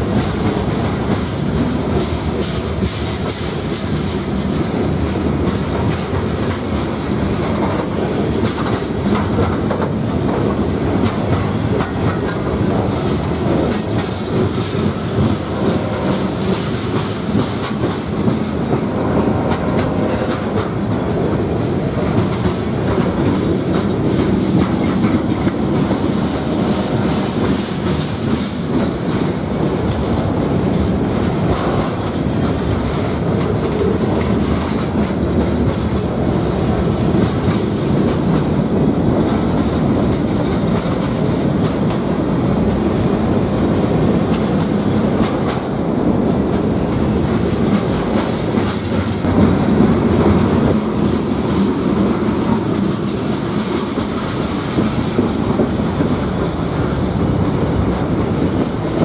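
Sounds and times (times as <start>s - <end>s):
clickety-clack of wheels on rail joints: 0.0s - 59.0s
freight train cars rumbling: 0.0s - 59.0s.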